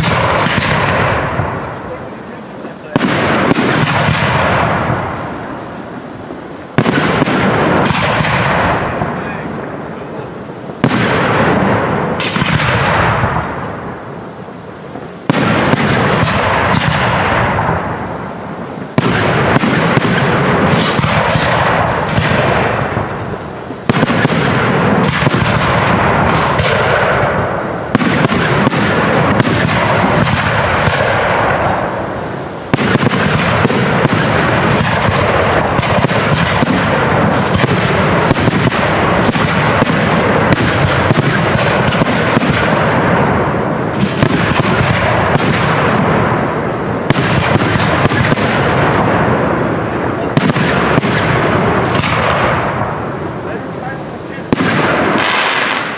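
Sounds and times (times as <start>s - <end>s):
fireworks launching and bursting: 0.0s - 55.9s.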